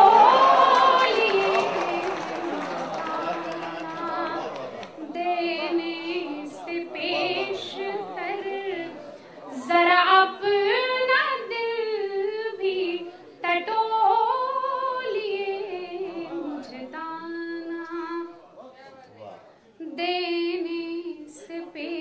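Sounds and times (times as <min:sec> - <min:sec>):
woman singing unaccompanied: 0:00.0 - 0:18.4, 0:19.8 - 0:22.0.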